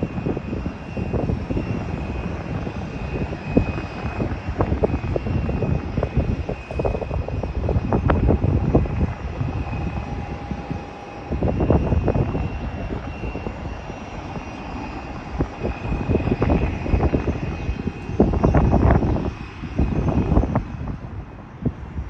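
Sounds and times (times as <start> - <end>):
airliner engine whine: 0.0 - 22.0
wind buffeting microphone: 0.0 - 22.0.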